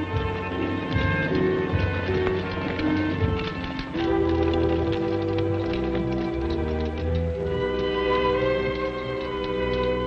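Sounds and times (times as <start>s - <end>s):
orchestral film music: 0.0s - 10.0s.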